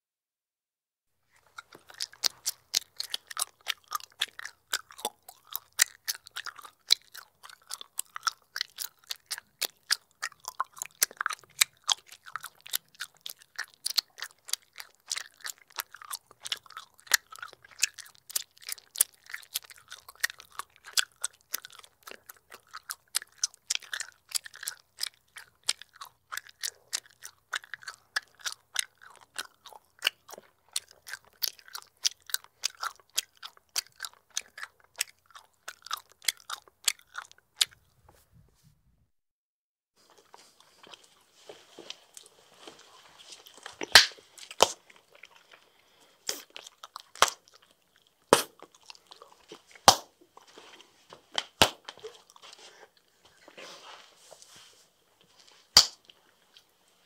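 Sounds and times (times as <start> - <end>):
gum chewing smacks: 1.4 - 38.0, 40.0 - 53.6, 55.5 - 56.7.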